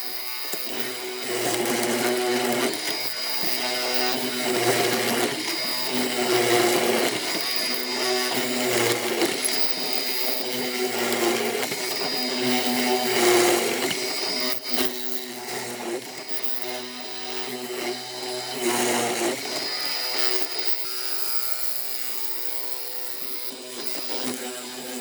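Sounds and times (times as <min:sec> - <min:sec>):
power tool motor whine: 0:00.0 - 0:25.0.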